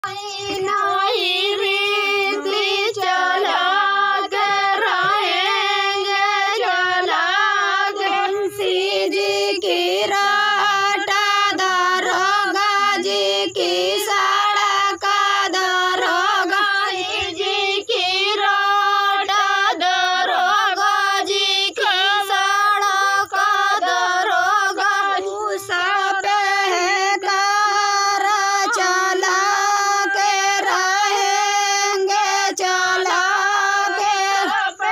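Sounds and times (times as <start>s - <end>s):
woman singing folk song: 0.0s - 34.9s.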